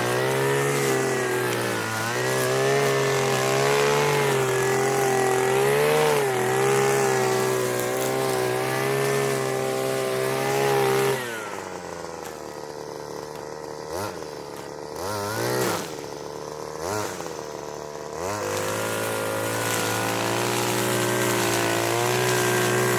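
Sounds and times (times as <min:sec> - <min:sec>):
brushcutter engine revving: 0:00.0 - 0:22.9.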